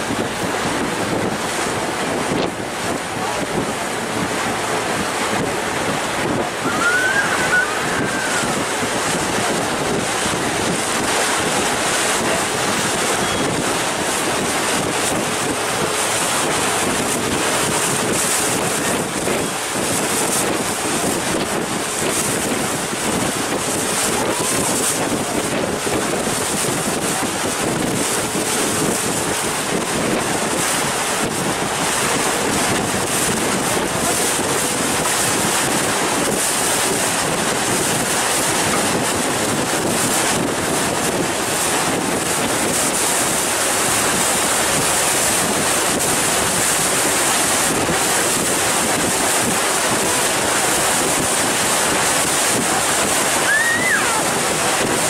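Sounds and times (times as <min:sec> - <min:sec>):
water washing past boat: 0:00.0 - 0:55.0
wind on microphone: 0:00.0 - 0:55.0.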